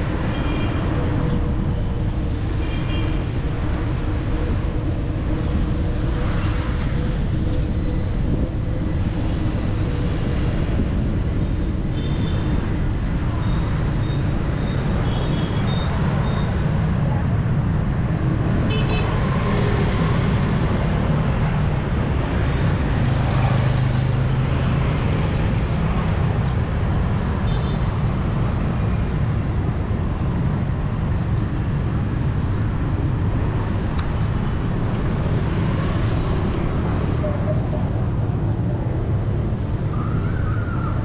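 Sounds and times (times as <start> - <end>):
city street traffic: 0.0 - 41.0.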